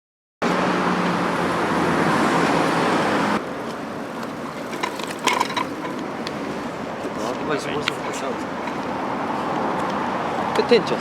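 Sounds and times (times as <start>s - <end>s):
road traffic noise: 0.4s - 11.0s.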